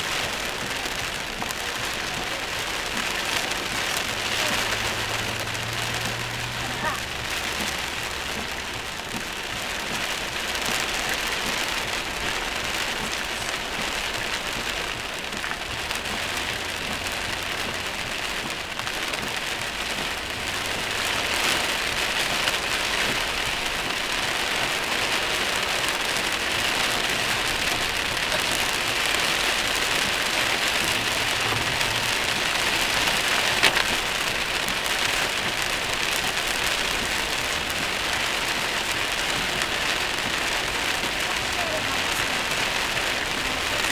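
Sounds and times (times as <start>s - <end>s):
heavy rain on a car: 0.0s - 43.9s.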